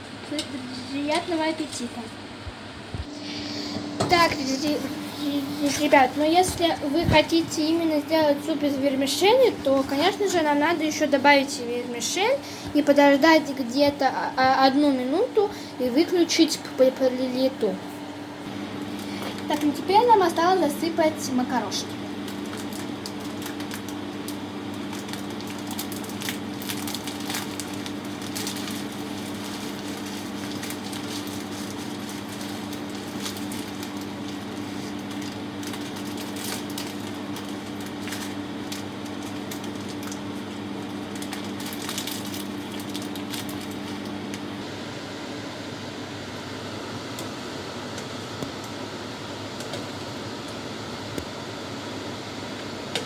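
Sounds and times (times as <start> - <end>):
mechanical hum: 0.0 - 53.0.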